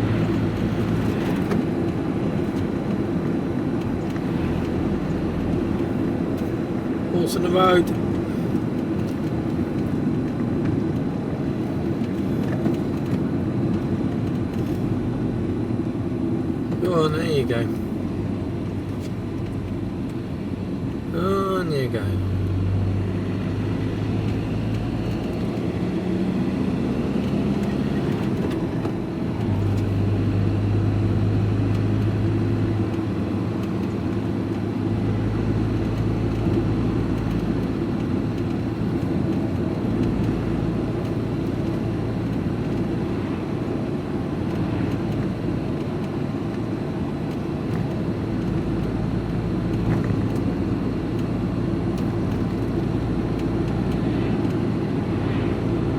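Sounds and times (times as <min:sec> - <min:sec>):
lorry diesel engine running: 0:00.0 - 0:55.9.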